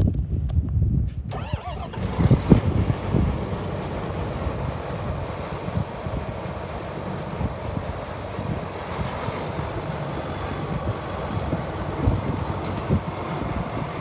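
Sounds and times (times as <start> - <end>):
diesel tractor engine starting: 1.2 - 14.0.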